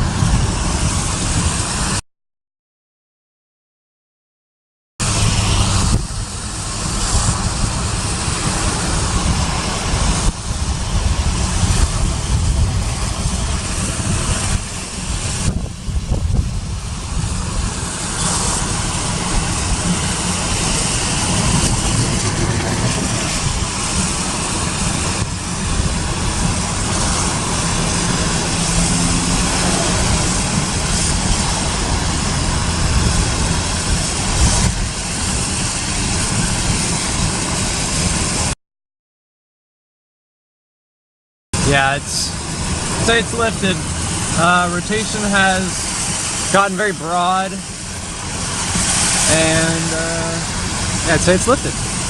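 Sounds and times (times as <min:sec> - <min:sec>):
wind rushing with low rumble: 0:00.0 - 0:02.0, 0:05.0 - 0:38.6, 0:41.6 - 0:52.0.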